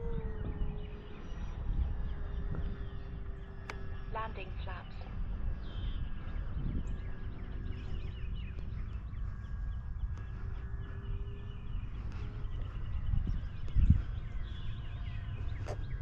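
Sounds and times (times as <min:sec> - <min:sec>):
small birds chirping: 0:00.0 - 0:16.0
wind rumble on microphone: 0:00.0 - 0:16.0.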